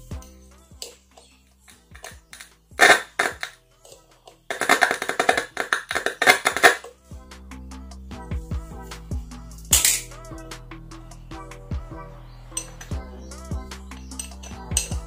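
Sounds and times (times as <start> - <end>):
drums and percussion strikes: 0.0 - 3.6, 4.5 - 11.9, 12.6 - 15.0.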